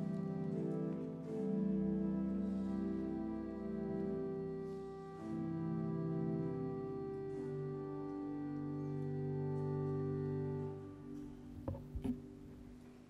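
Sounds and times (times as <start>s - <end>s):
organ playing sustained chords: 0.0s - 13.0s.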